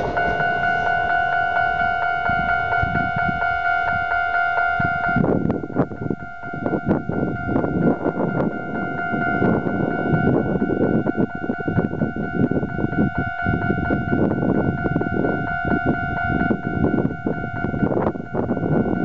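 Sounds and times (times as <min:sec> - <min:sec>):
electric train passing: 0:00.0 - 0:19.0
level-crossing warning bell: 0:00.0 - 0:19.0.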